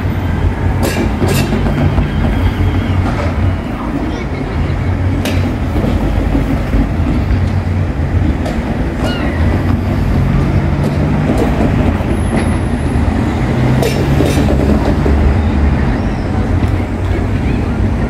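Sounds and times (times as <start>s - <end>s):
diesel train engine drone: 0.0s - 18.0s
rail noise: 0.0s - 18.0s.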